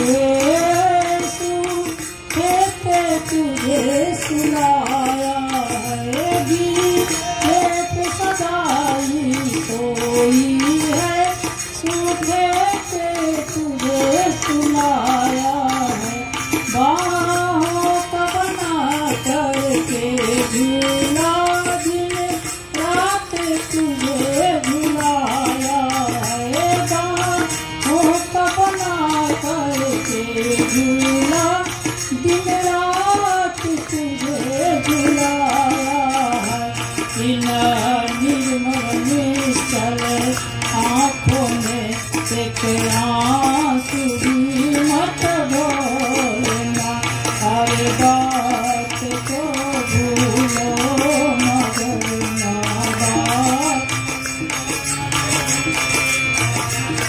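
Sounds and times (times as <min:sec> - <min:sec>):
percussion beat: 0:00.0 - 0:57.0
person singing devotional song: 0:00.0 - 0:57.0.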